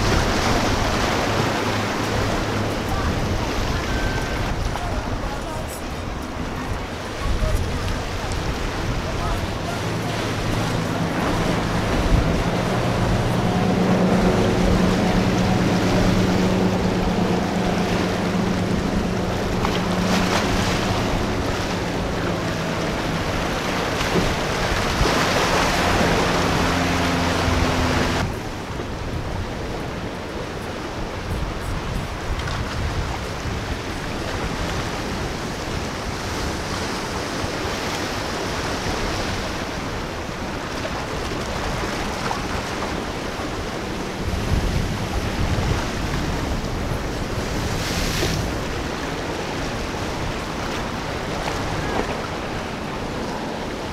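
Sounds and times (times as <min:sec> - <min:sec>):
surf breaking: 0:00.0 - 0:31.0, 0:31.6 - 0:53.9
outboard engine running: 0:00.0 - 0:53.9
wind buffeting microphone: 0:00.0 - 0:53.9.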